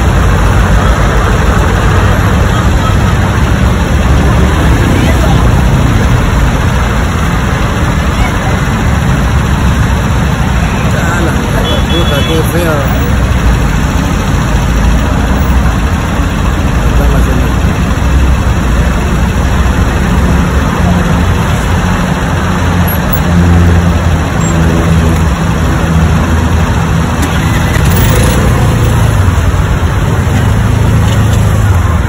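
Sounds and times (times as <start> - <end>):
engine idling close by: 0.0 - 32.0
road traffic noise: 0.0 - 32.0.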